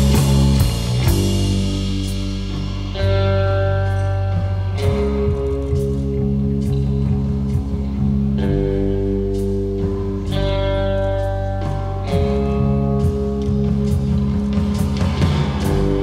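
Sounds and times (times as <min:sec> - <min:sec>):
guitar music with heavy bass: 0:00.0 - 0:16.0
steady beat: 0:00.0 - 0:16.0.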